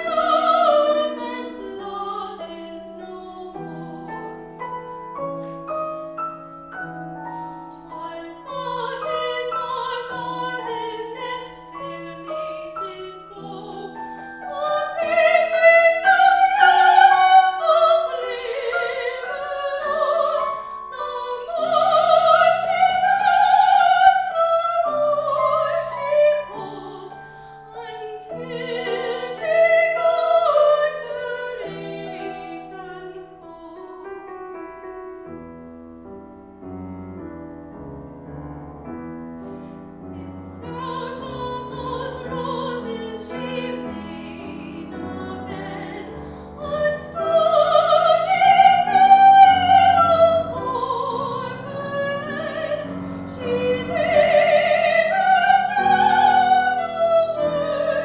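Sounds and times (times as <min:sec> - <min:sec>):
operatic singing with vibrato: 0:00.0 - 0:05.5, 0:07.4 - 0:34.1, 0:40.2 - 0:58.0
piano playing: 0:00.0 - 0:58.0.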